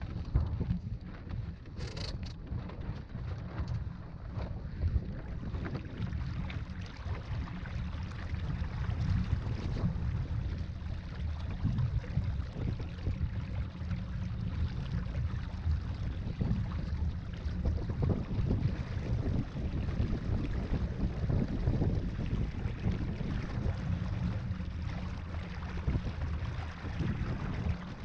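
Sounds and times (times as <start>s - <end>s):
water slapping against hull: 0.0s - 28.0s
wind buffeting microphone: 0.0s - 28.0s.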